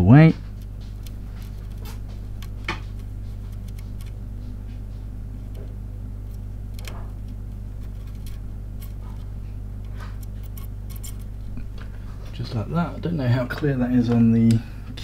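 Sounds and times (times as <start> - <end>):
steady low hum: 0.0 - 15.0
faint solder crackles and ticks: 0.3 - 12.4.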